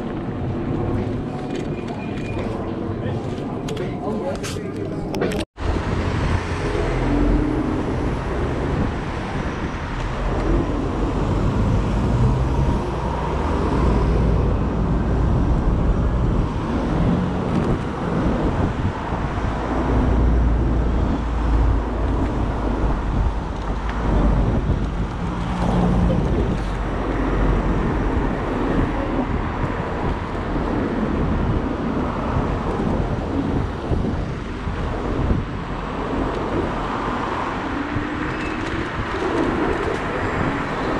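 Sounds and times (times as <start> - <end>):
heavy low rumble: 0.0 - 40.9
road and traffic noise: 0.0 - 40.9.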